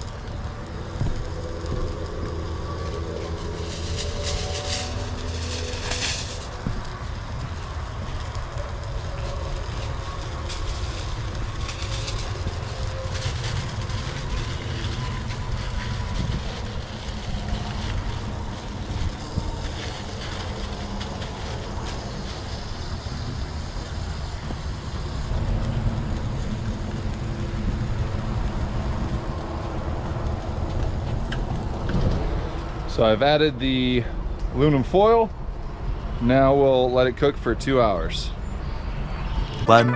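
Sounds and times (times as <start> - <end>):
aluminum foil crinkling: 0.0 - 32.5
steady low rumble: 0.0 - 34.5.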